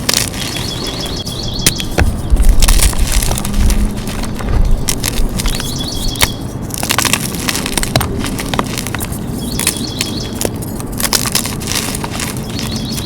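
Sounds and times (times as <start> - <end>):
chalk being crushed: 0.0 - 13.0.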